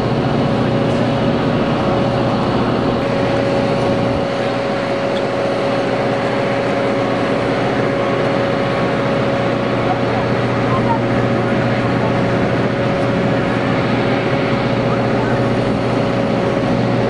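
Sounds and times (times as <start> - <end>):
steady engine-like drone: 0.0 - 17.0.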